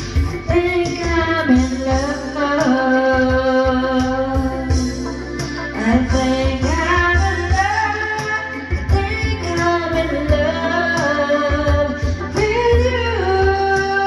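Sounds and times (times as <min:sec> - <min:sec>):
backing track with bass beat: 0:00.0 - 0:14.0
woman singing into microphone: 0:00.0 - 0:14.0.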